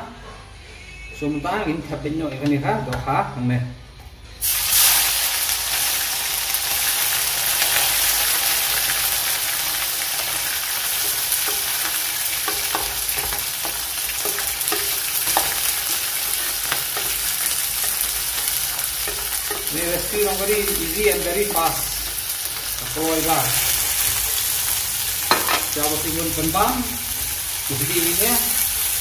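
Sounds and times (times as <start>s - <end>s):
fish sizzling in hot oil: 4.4s - 29.0s.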